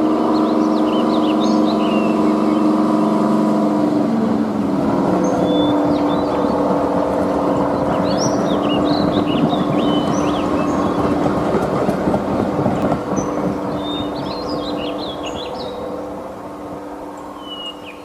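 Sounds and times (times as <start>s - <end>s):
birds chirping: 0.0s - 3.3s, 5.1s - 18.0s
diesel locomotive engine running: 0.0s - 18.0s.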